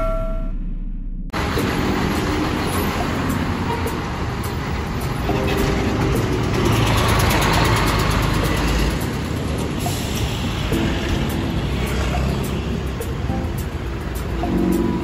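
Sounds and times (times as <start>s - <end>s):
road traffic: 1.3s - 15.0s
bus passing: 1.4s - 15.0s.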